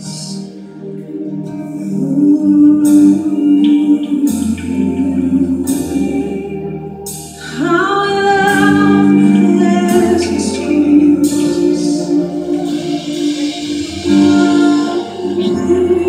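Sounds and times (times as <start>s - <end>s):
band with bass line: 0.0s - 16.0s
choir singing gospel: 1.2s - 16.0s
voice holding long note: 1.7s - 16.0s.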